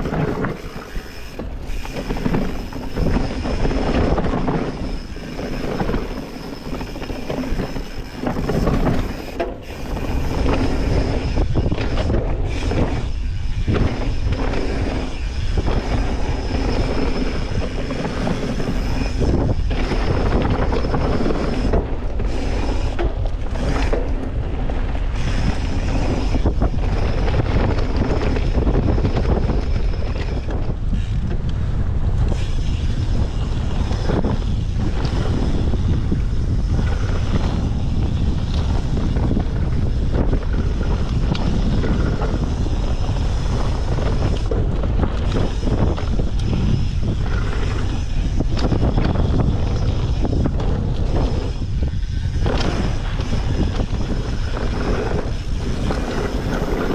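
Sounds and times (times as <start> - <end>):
bike rattling over rough ground: 0.0 - 56.9
tyre noise on dirt: 0.0 - 56.9
wind rushing on microphone: 0.0 - 56.9.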